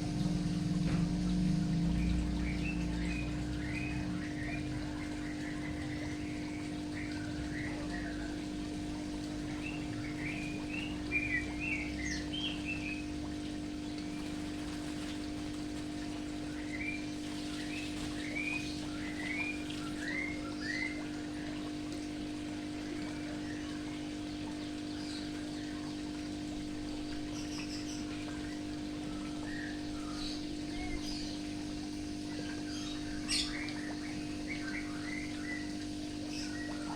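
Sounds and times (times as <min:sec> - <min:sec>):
faint running water: 0:00.0 - 0:36.9
small birds chirping: 0:00.0 - 0:36.9
steady low hum: 0:00.0 - 0:36.9.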